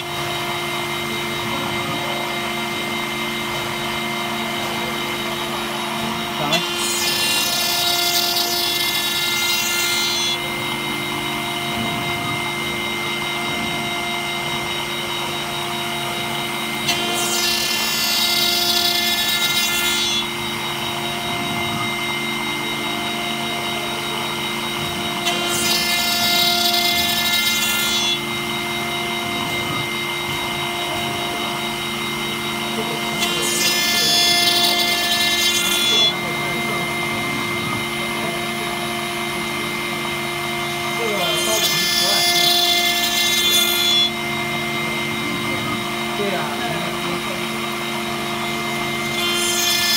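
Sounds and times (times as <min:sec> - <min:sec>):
milling cutting noise: 0:00.0 - 0:49.9
router spindle whine: 0:00.0 - 0:49.9.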